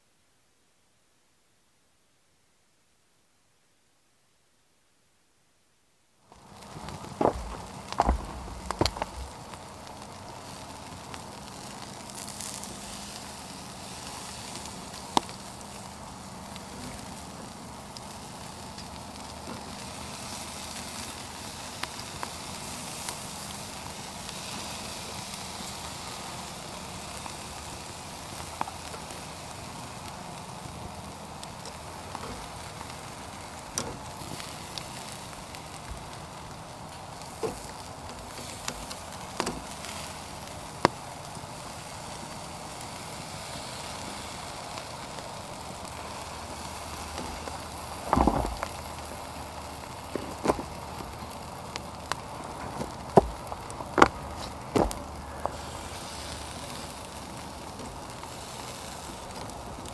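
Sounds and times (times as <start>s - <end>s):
campfire crackling and popping: 6.2s - 59.9s
meat sizzling on a grill: 6.3s - 59.9s.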